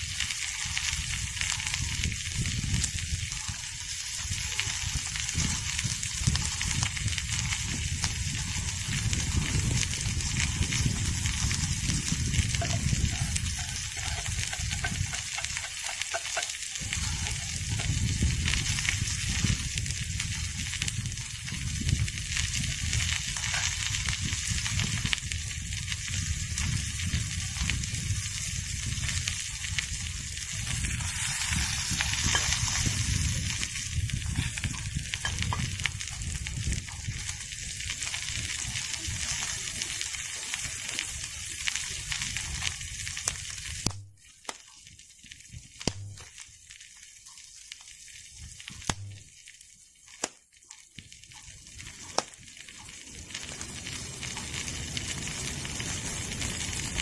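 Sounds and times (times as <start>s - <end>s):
fire crackling: 0.0s - 57.0s
food sizzling in a pan: 0.0s - 57.0s.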